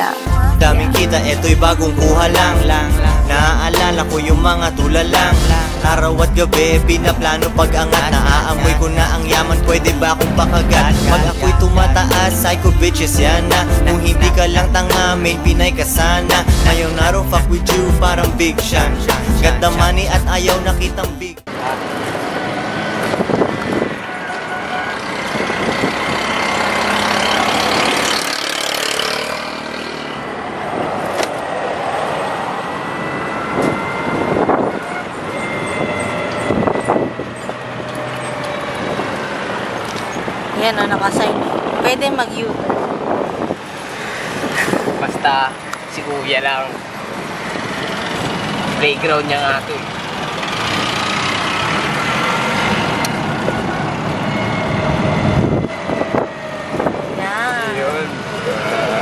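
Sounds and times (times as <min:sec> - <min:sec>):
traffic and road noise: 0:00.0 - 0:59.0
vehicles passing close: 0:00.0 - 0:59.0.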